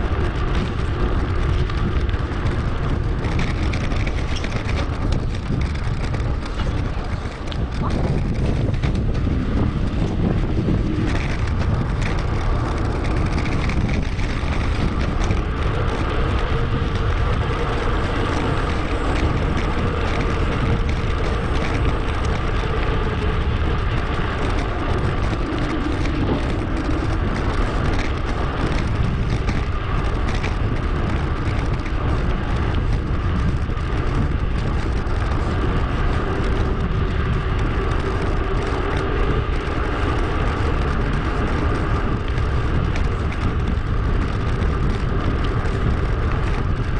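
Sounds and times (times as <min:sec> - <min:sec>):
bike tyre and road noise: 0:00.0 - 0:46.9
wind buffeting microphone: 0:00.0 - 0:46.9.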